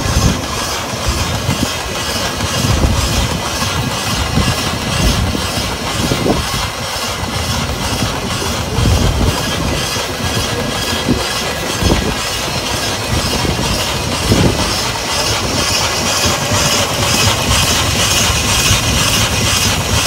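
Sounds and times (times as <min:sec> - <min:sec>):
loud mechanical knocks: 0:00.0 - 0:20.0
steam engine clatter: 0:00.0 - 0:20.0
steam hissing: 0:00.0 - 0:20.0.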